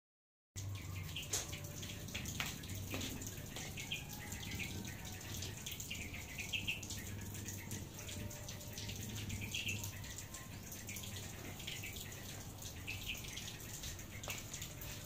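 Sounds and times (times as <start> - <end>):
rain falling: 0.6 - 15.0
water dripping off roof: 0.6 - 15.0.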